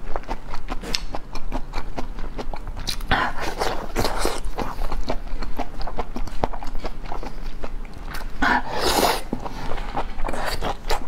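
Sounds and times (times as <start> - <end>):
wet chewing mouth sounds: 0.0 - 11.0.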